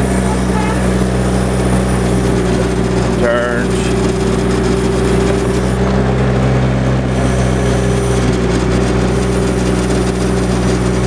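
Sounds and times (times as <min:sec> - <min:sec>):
mini excavator diesel engine running: 0:00.0 - 0:11.0.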